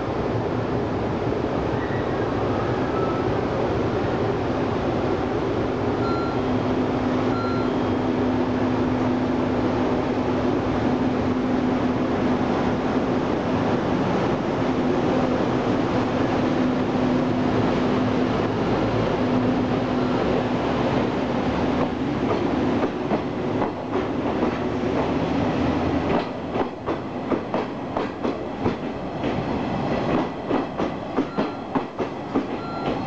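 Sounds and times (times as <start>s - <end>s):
electric locomotive hum: 0.0s - 33.0s
train rumbling on track: 0.0s - 33.0s.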